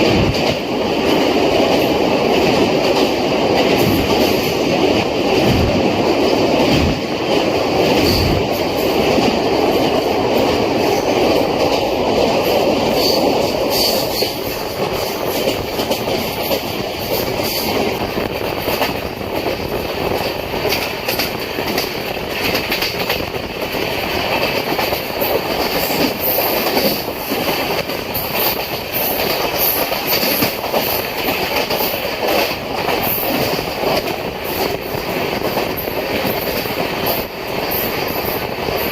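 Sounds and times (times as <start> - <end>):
train clatter: 0.0 - 38.9
train wheels rumbling on rails: 0.0 - 38.9.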